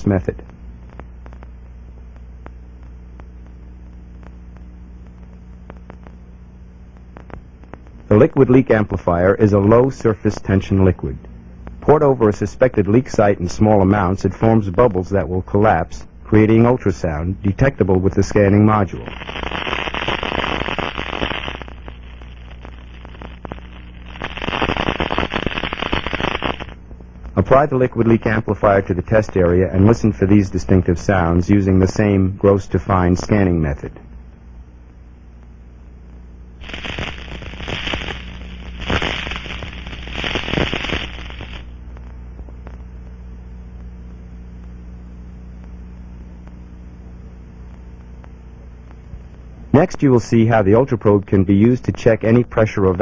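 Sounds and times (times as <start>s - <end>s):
dense crackling pops over hiss: 0.0s - 53.0s.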